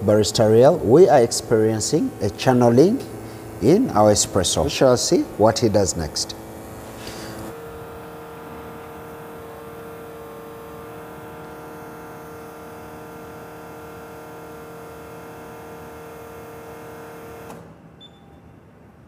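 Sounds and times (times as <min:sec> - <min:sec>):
espresso machine pump humming: 0:00.0 - 0:17.6.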